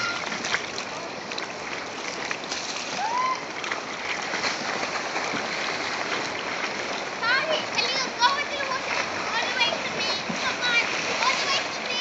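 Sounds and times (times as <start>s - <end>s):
sea water lapping and splashing: 0.0s - 12.0s.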